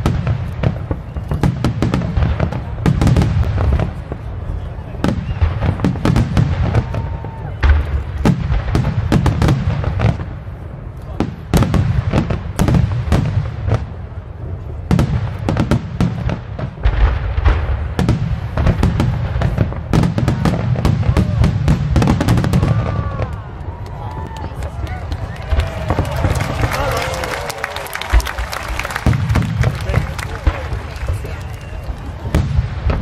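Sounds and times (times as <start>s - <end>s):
fireworks booming: 0.0s - 23.8s, 24.6s - 33.0s
fireworks cracking: 0.0s - 33.0s.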